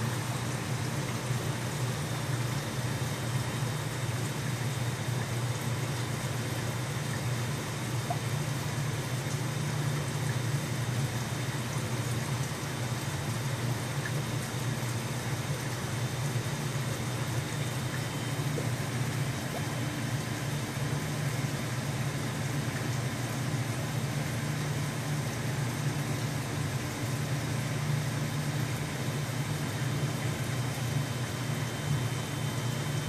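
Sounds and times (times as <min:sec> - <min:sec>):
aquarium pump hum: 0:00.0 - 0:33.0.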